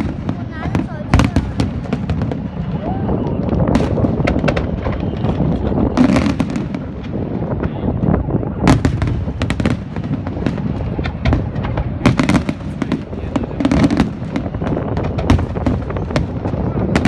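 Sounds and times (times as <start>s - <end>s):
fireworks booming: 0.0s - 17.0s
fireworks cracking: 0.0s - 17.0s.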